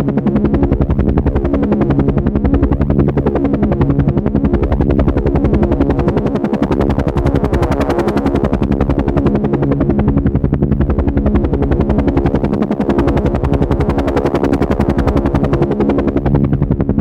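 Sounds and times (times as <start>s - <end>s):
engine drone: 0.0s - 17.0s
helicopter rotor chopping: 0.0s - 17.0s.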